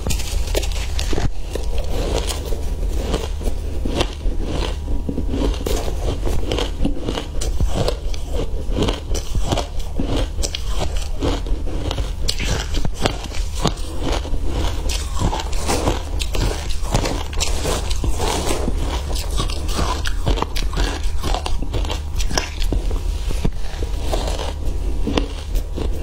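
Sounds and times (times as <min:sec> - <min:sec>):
chewing: 0:00.0 - 0:26.0
ice crunching between teeth: 0:00.0 - 0:26.0.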